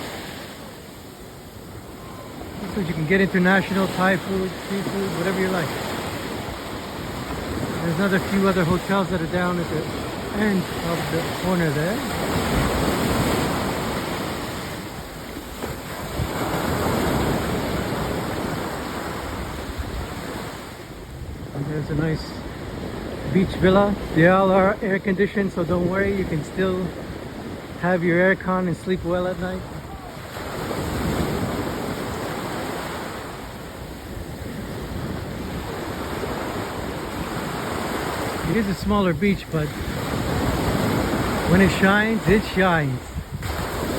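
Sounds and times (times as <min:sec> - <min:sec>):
sea surf washing on beach: 0:00.0 - 0:43.9.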